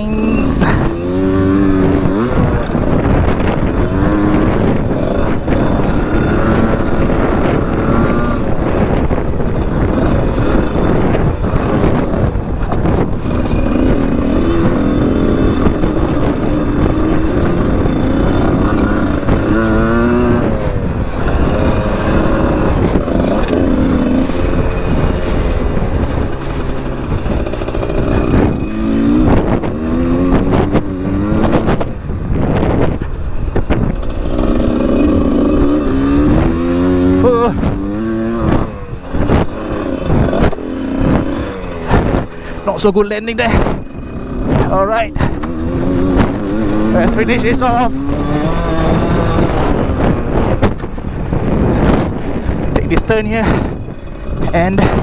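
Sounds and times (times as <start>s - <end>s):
dirt bike engine revving: 0.0s - 55.0s
wind on microphone: 0.0s - 55.0s.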